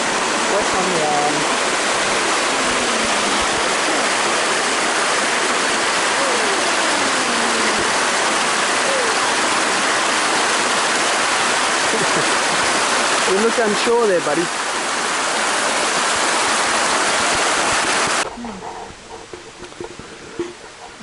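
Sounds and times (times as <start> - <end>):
creek water running over rocks: 0.0 - 21.0.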